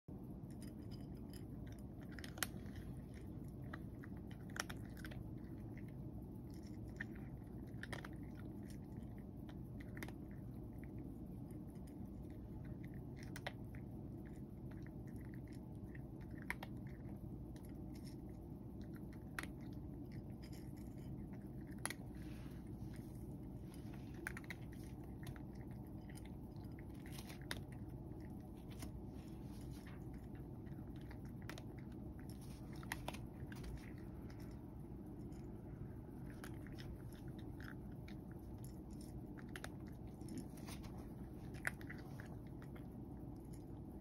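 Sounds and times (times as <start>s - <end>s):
low hum: 0.0s - 44.0s
cat crunching kibble: 0.1s - 44.0s.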